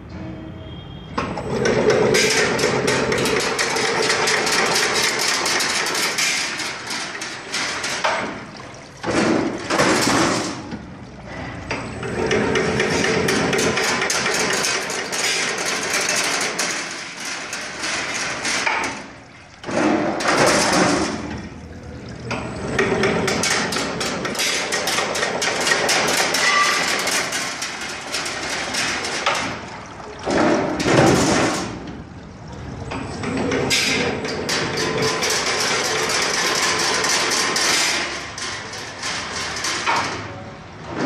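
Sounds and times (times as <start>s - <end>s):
tube-cutting machine clattering: 1.4s - 10.8s, 12.0s - 21.4s, 22.3s - 31.9s, 33.2s - 40.3s.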